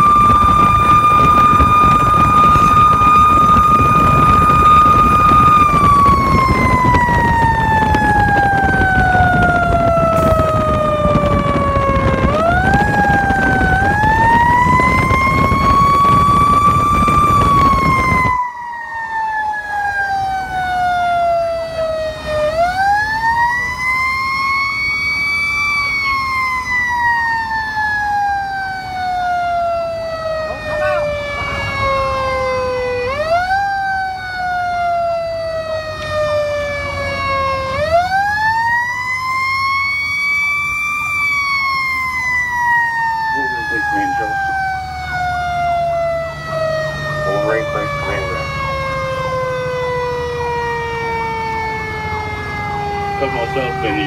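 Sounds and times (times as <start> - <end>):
engine and road rumble: 0.0 - 54.0
fire engine siren wailing: 0.0 - 54.0.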